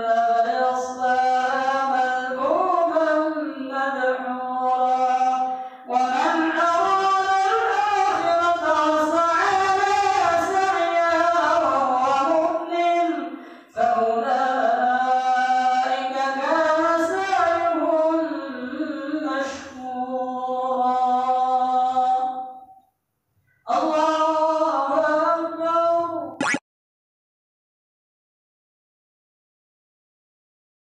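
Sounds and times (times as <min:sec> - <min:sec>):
person chanting recitation over microphone: 0:00.0 - 0:22.8, 0:23.7 - 0:26.4.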